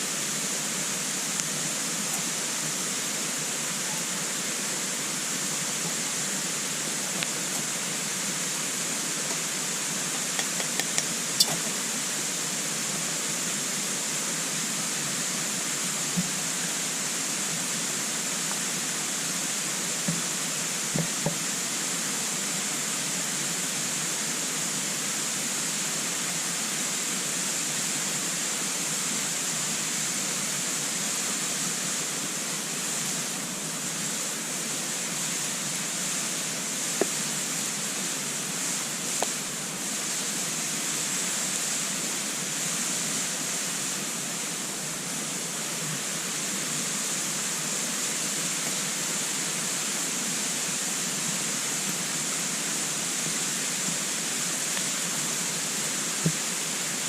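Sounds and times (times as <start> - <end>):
steady rushing hiss: 0.0 - 57.0.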